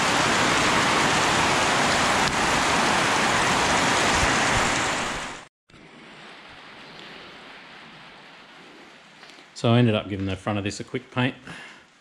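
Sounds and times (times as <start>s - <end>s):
heavy rain pouring: 0.0s - 10.3s.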